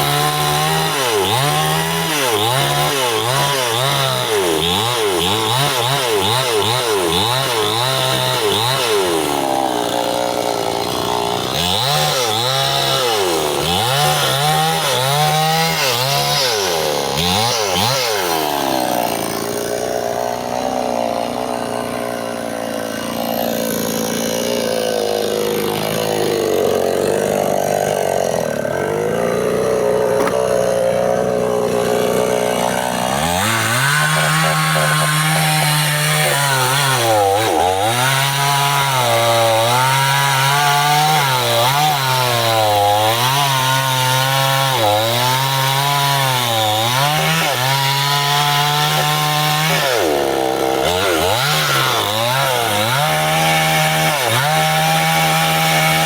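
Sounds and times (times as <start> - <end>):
chainsaw sawing wood: 0.0 - 56.0.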